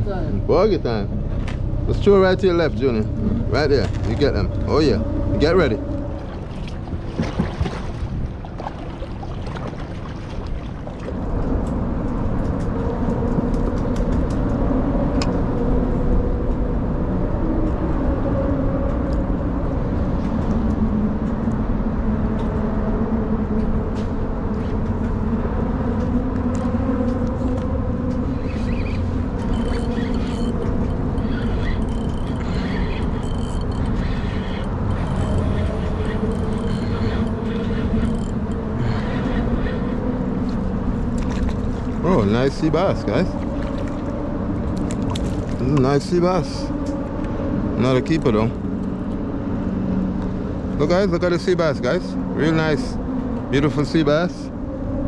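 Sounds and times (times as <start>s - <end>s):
road traffic rumble and hum: 0.0s - 55.0s.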